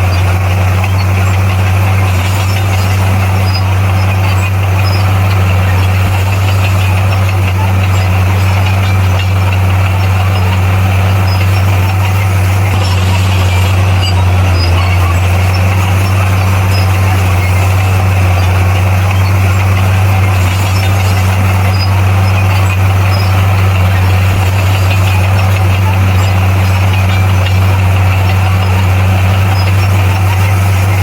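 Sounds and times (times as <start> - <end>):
bulldozer diesel engine droning: 0.0 - 31.0.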